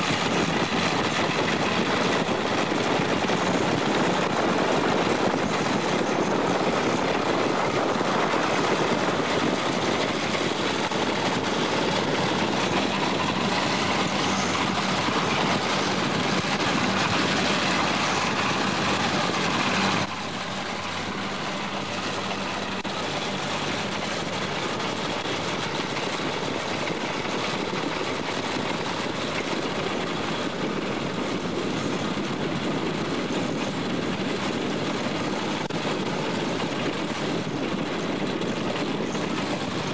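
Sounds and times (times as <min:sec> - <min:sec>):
tracked vehicle engine and tracks: 0:00.0 - 0:39.9.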